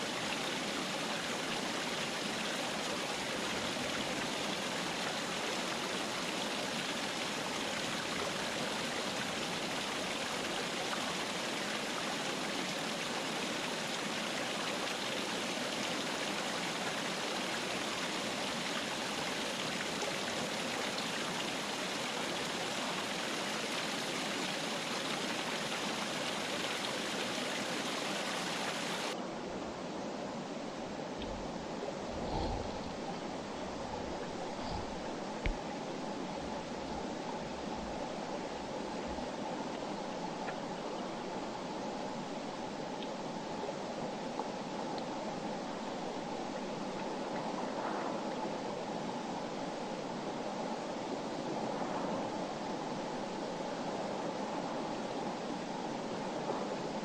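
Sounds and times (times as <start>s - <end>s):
river flowing over rocks: 0.0s - 47.6s.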